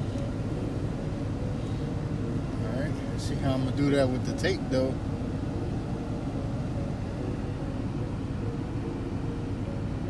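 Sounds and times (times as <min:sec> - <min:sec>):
car engine idling: 0:00.0 - 0:10.0
faint steady hum: 0:00.0 - 0:10.0.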